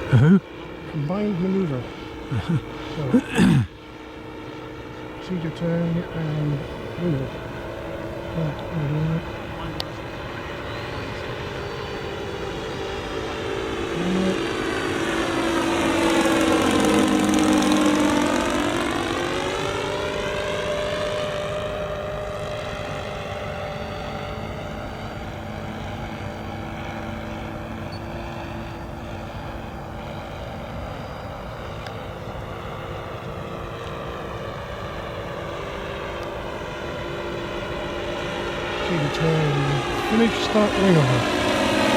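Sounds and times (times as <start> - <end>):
model airplane propeller drone: 0.0 - 41.9.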